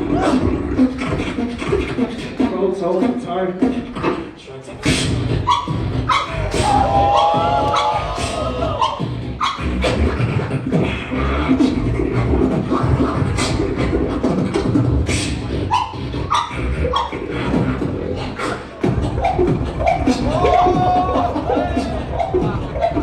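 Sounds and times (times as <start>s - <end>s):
beatboxing drum hits: 0.0s - 23.0s
deep beatboxed bass: 0.0s - 23.0s.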